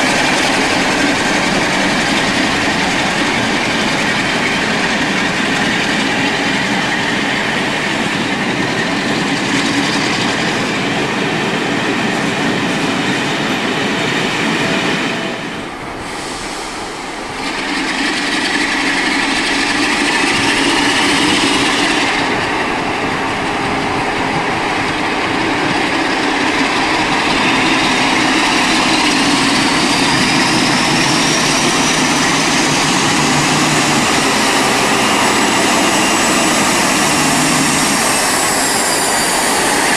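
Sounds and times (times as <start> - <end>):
train rumbling and rattling: 0.0 - 39.9.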